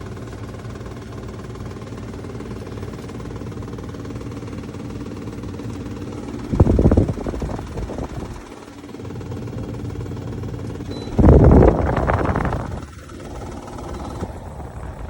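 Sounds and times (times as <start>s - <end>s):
air conditioner humming: 2.0s - 15.0s.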